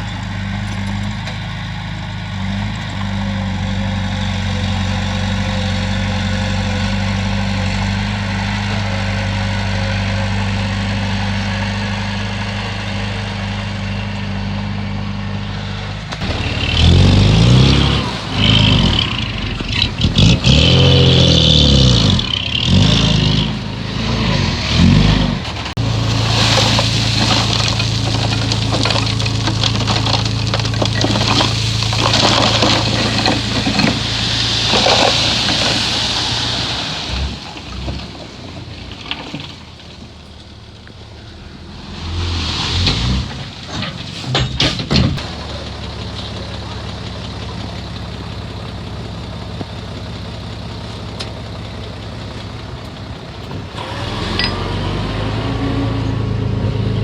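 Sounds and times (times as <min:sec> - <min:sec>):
bulldozer diesel engine revving: 0:00.0 - 0:39.3, 0:40.9 - 0:57.0.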